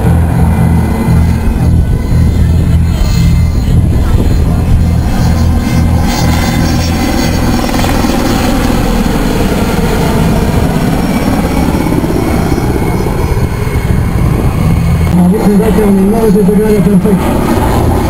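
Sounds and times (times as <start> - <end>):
helicopter rotor and engines: 0.0 - 18.0.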